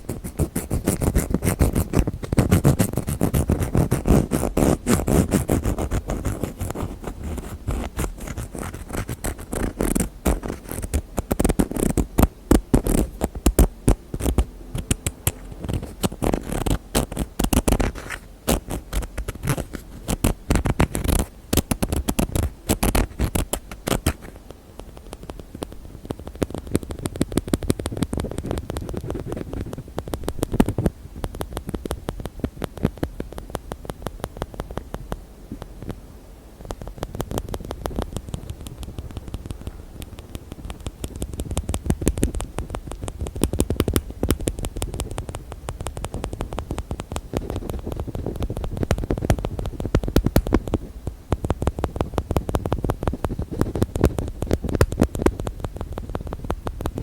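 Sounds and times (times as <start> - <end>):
fast hand tapping on lids: 0.0 - 35.2, 36.7 - 57.0.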